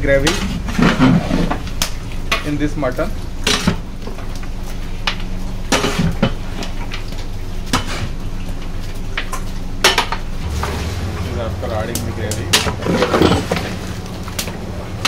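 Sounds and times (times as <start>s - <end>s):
low hum: 0.0s - 15.0s
utensils clanking in metal pot: 0.0s - 15.0s.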